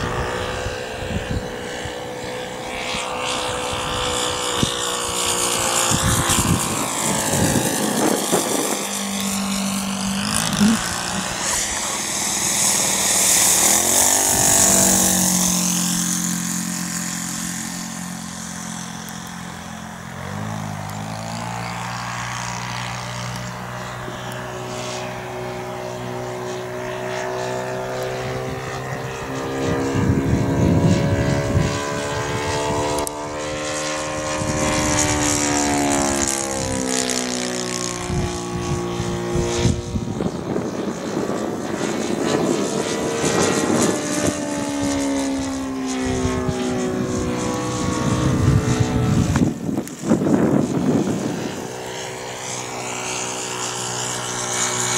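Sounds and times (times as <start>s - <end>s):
model plane engine in flight: 0.0s - 54.9s.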